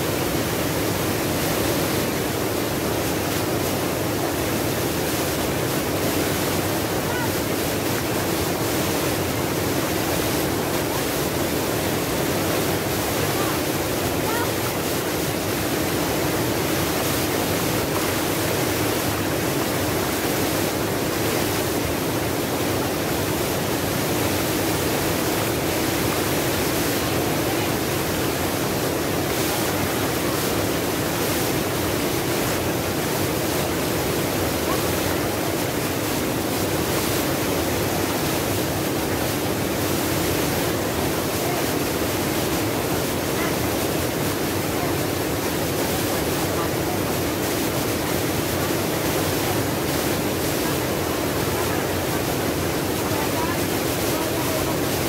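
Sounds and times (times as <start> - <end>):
waterfall rushing over boulders: 0.0 - 55.0.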